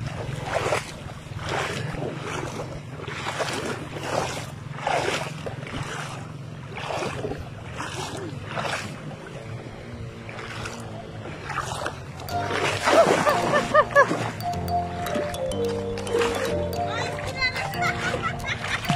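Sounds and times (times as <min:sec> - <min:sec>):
river water splashing: 0:00.0 - 0:18.9.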